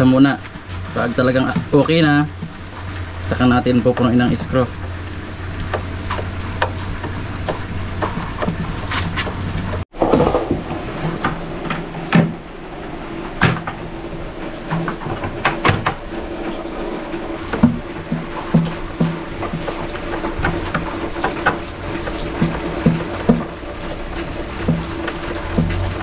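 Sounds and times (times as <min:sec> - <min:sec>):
wood being handled: 0:00.0 - 0:12.4, 0:14.6 - 0:26.0.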